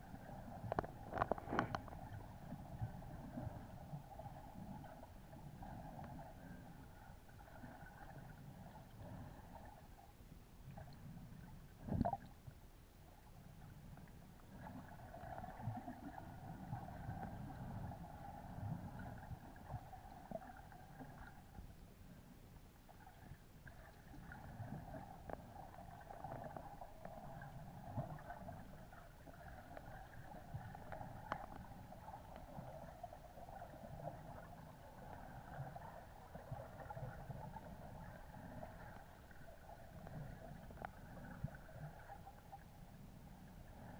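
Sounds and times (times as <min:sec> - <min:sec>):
muffled underwater water noise: 0:00.0 - 0:43.9.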